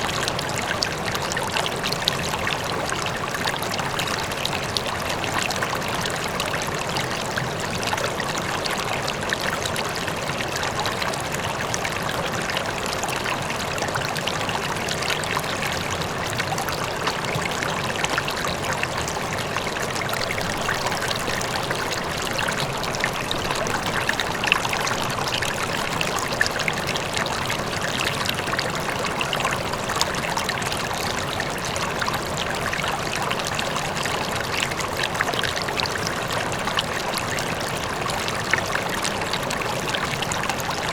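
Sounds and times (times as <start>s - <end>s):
river water flowing and splashing: 0.0s - 40.9s.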